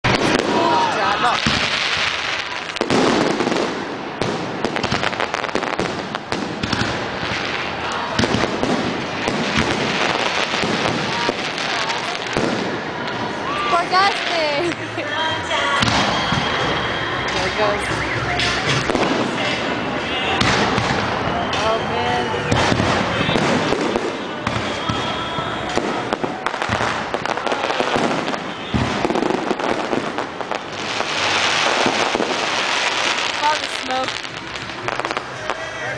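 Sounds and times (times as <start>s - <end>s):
fireworks bangs and crackling: 0.0s - 35.9s.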